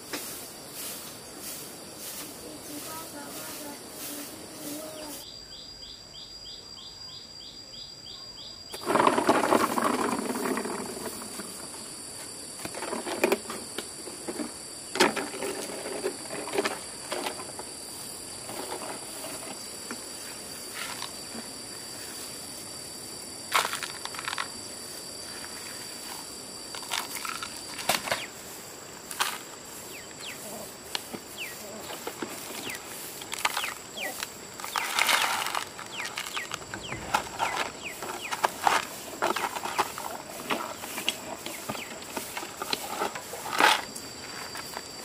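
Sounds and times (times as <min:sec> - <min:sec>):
high-pitched insect calling: 0:00.0 - 0:12.8, 0:16.0 - 0:45.0.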